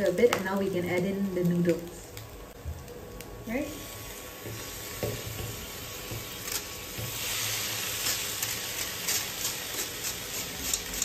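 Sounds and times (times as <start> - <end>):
hot pan sizzling: 0.0 - 11.0.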